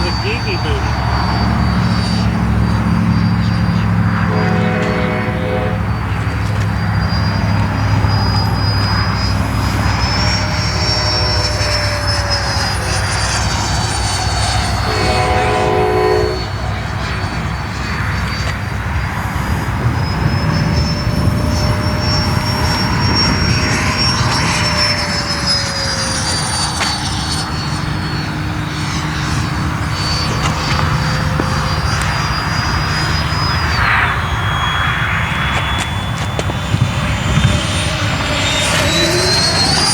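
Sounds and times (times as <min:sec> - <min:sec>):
brief tone: 0:00.0 - 0:39.9
model jet fan whine: 0:00.0 - 0:39.9.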